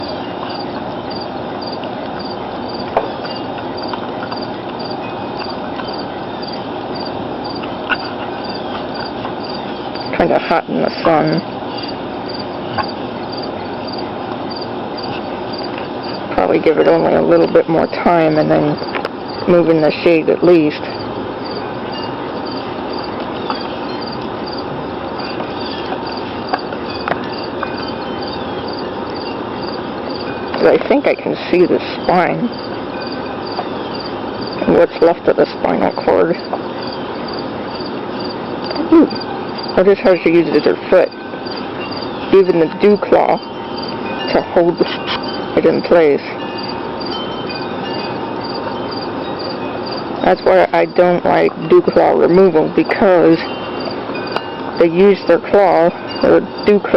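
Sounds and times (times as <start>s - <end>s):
insect chirping: 0.0s - 56.9s
outdoor hum: 0.0s - 56.9s.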